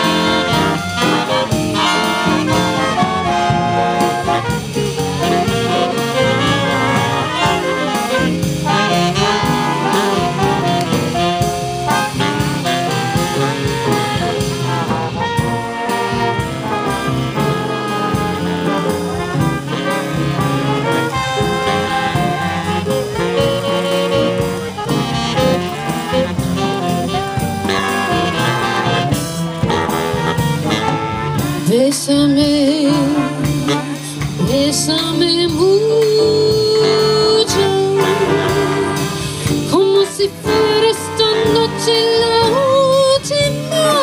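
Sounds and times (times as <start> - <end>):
jazz band with brass and saxophone: 0.0 - 44.0.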